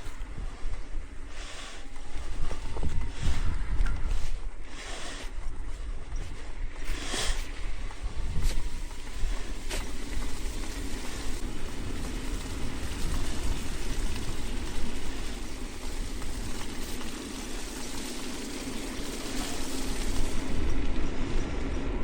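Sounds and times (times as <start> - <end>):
constant hiss: 0.0 - 22.0
wind buffeting microphone: 0.0 - 22.0.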